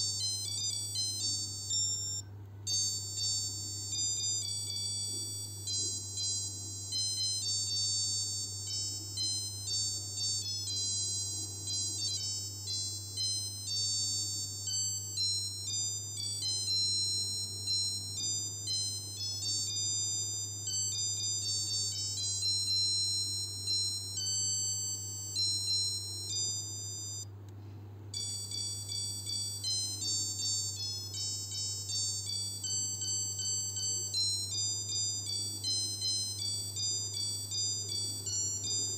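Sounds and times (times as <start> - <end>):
alarm watch beeping melody: 0.0 - 27.3, 28.2 - 38.9
faint low hum: 0.0 - 38.9.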